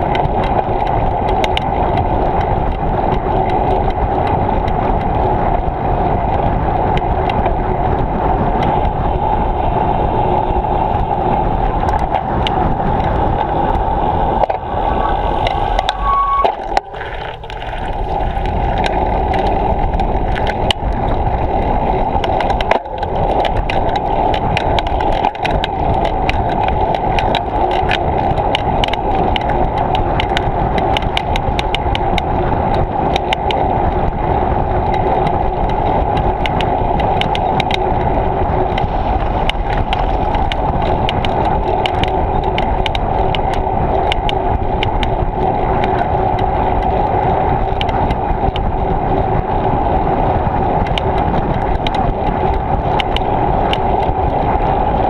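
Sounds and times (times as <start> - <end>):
bicycle rolling: 0.0 - 55.0
wind noise: 0.0 - 55.0.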